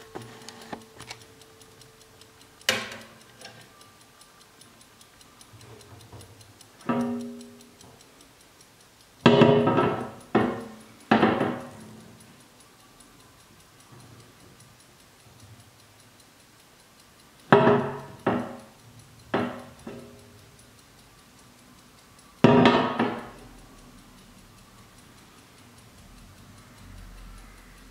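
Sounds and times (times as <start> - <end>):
clock ticking faintly: 0.0 - 27.9.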